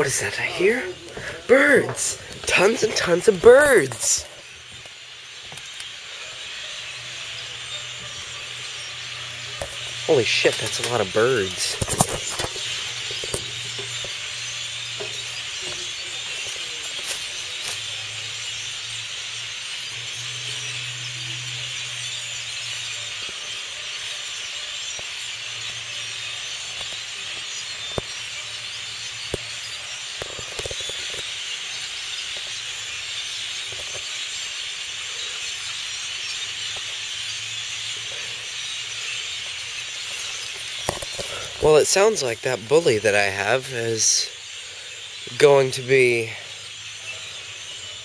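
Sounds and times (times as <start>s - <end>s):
flock of birds chattering: 0.0s - 48.0s.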